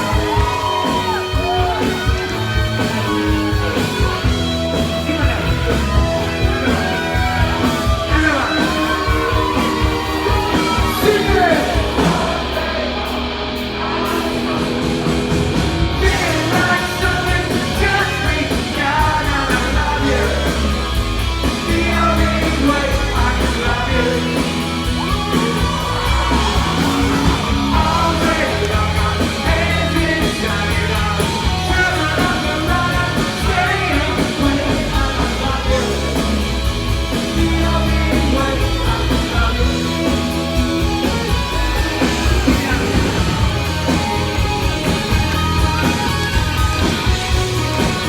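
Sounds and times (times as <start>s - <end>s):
singer's lead vocal: 0.0s - 44.7s
bass guitar: 0.0s - 48.0s
drums: 0.0s - 48.0s
electric guitars: 0.0s - 48.0s.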